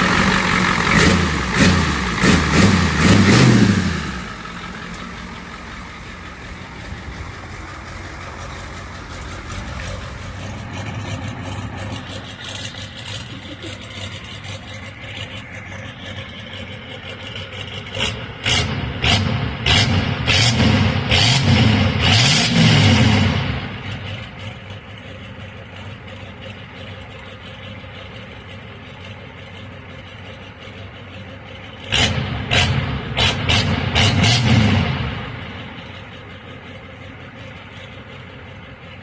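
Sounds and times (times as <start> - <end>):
diesel engine revving and idling: 0.0 - 39.0.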